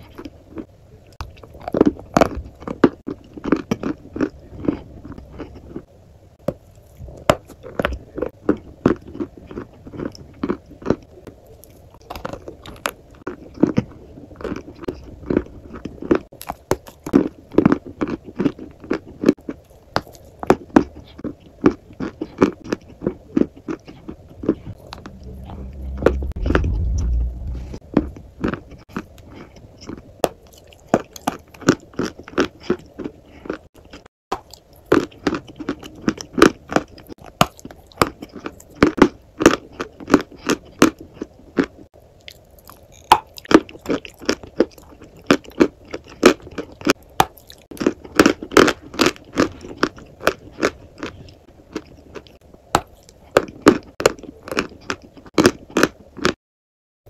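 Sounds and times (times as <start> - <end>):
crunching and chewing chalk: 0.0 - 56.4.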